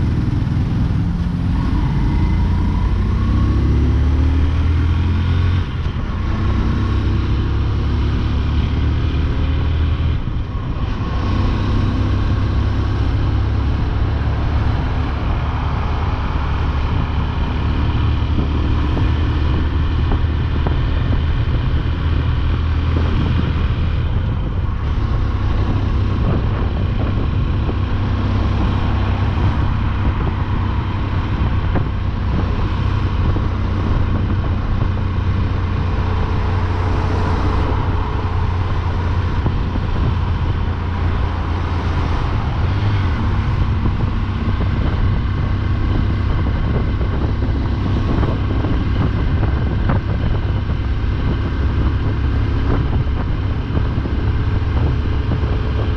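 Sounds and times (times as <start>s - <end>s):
motorcycle engine accelerating: 0.0s - 55.9s
wind and road noise: 0.0s - 55.9s.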